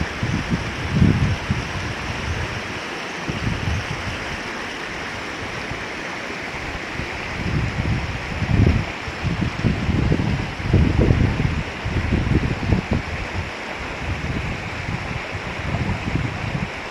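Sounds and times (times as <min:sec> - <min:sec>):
stream running over stones: 0:00.0 - 0:16.9
wind buffeting microphone: 0:00.0 - 0:16.9.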